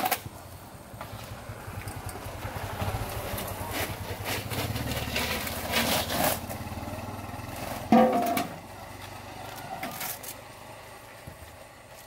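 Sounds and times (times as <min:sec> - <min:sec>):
small engine running: 0:00.5 - 0:12.0.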